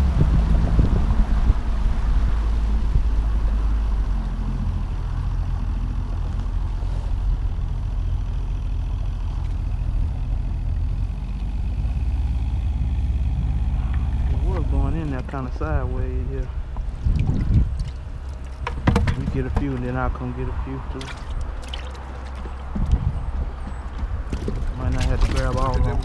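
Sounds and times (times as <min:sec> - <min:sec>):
water rushing along hull: 0:00.0 - 0:08.0, 0:10.7 - 0:26.0
outboard motor running: 0:00.0 - 0:26.0.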